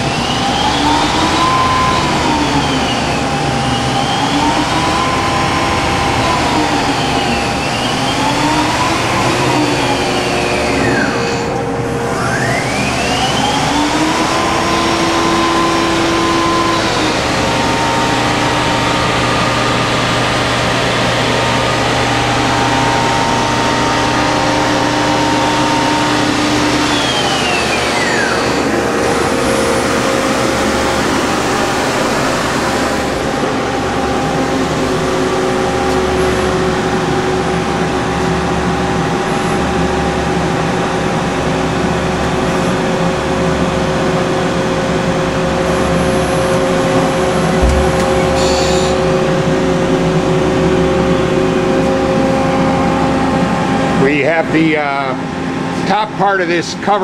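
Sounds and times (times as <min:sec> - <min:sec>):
whining drive tones: 0:00.0 - 0:39.7, 0:44.1 - 0:54.1
lathe machine noise: 0:00.0 - 0:57.0.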